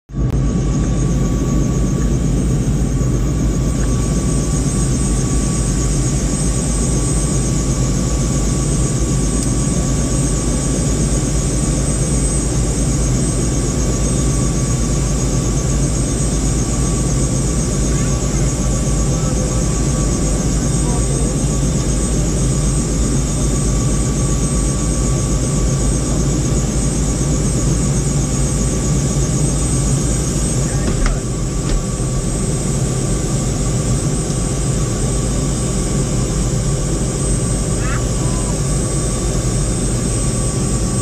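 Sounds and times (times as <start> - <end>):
helicopter drone: 0.1 - 41.0
high-pitched whine: 0.1 - 41.0.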